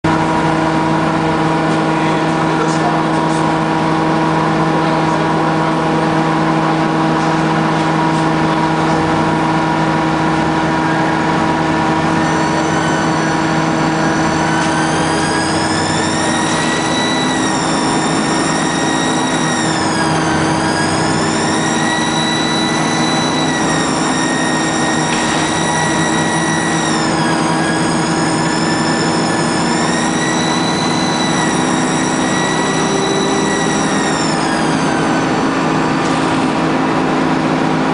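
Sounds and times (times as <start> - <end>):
bus engine hum: 0.1 - 37.9
wavering high-pitched whine: 0.1 - 37.9.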